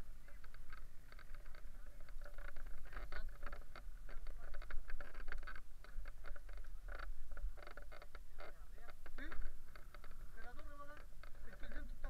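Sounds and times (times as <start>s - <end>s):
wind rumbling on microphone: 0.0s - 12.0s
wing and brush rustling: 0.0s - 12.0s.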